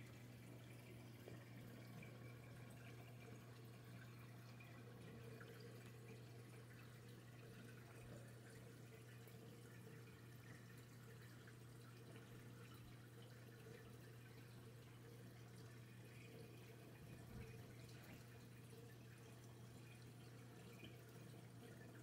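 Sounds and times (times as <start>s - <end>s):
faint low hum: 0.0s - 22.0s
faint water trickle: 0.0s - 22.0s.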